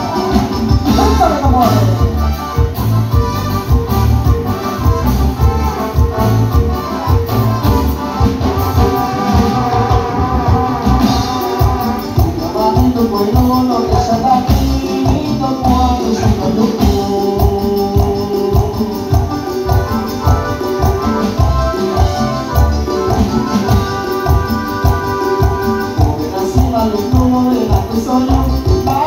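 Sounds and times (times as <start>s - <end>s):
keyboard melody: 0.0s - 29.0s
live band music through speakers: 0.0s - 29.0s.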